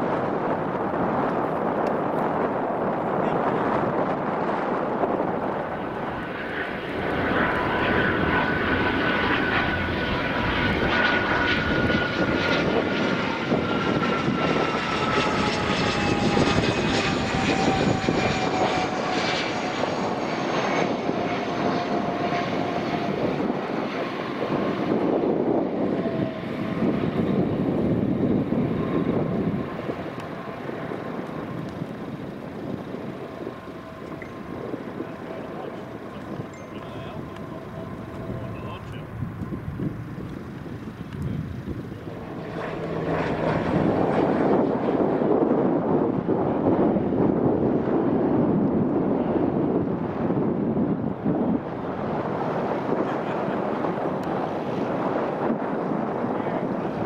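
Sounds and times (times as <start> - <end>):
jet engines on approach: 0.0 - 57.0.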